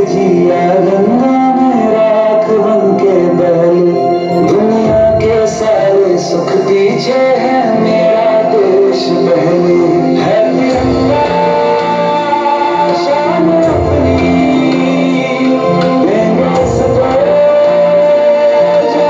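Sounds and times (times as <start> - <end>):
guitar and instrumental backing: 0.0 - 19.0
person singing: 0.0 - 19.0.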